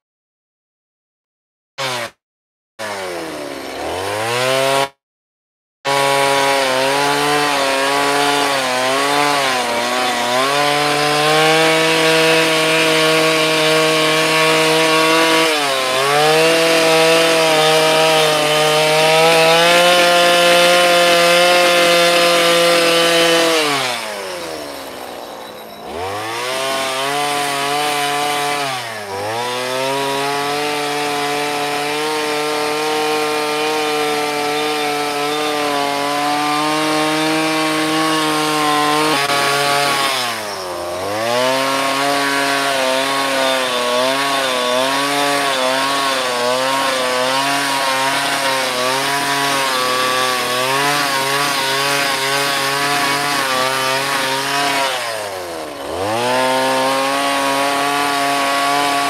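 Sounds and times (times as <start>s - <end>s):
chainsaw revving and cutting wood: 1.8s - 2.2s, 2.8s - 5.0s, 5.8s - 59.0s.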